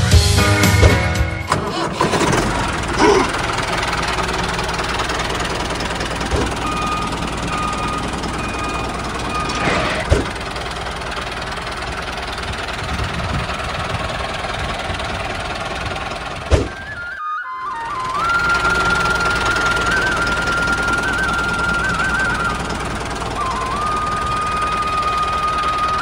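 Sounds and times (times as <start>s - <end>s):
tractor engine chugging: 0.0s - 26.0s.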